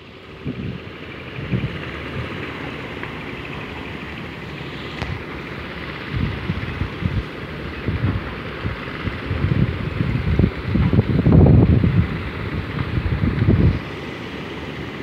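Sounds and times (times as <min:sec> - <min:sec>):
diesel engine running: 0:00.0 - 0:15.0
wind buffeting microphone: 0:00.1 - 0:15.0.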